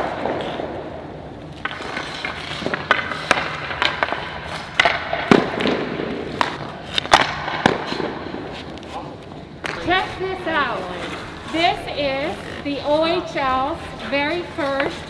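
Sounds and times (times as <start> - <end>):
hockey sticks slapping pucks: 0.0 - 15.0
pucks hitting pads and boards: 0.0 - 15.0.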